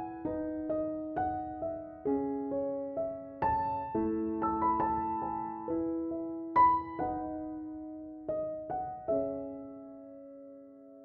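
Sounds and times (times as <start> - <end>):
soft slow piano music: 0.0 - 11.0.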